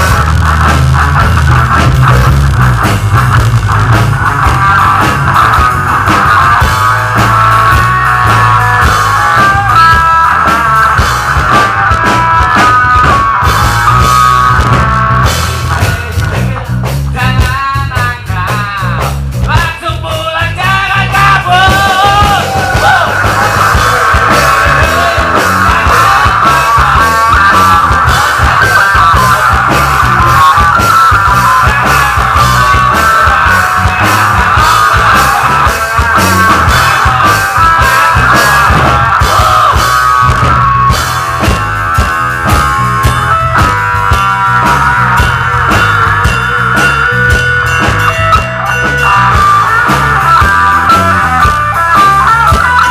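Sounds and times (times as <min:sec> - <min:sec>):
electric guitar lead: 0:00.0 - 0:52.9
live rock band playing: 0:00.0 - 0:52.9.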